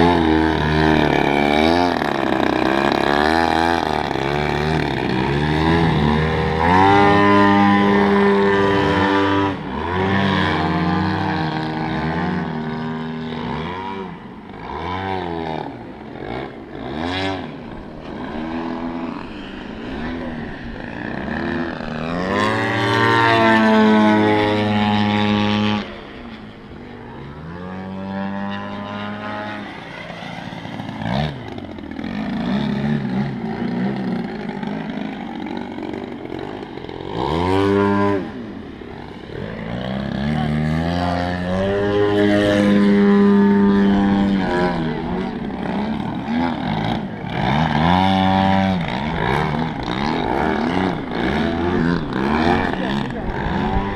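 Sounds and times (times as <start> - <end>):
model plane engine and propeller: 0.0 - 53.9.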